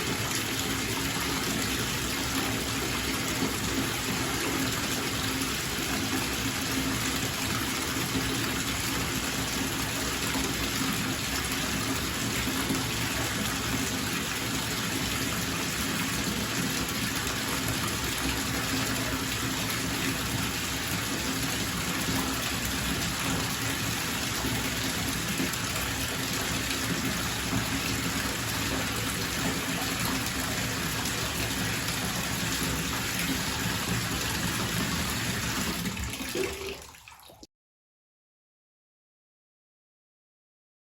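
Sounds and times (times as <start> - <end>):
tap running into bathtub: 0.0 - 37.5.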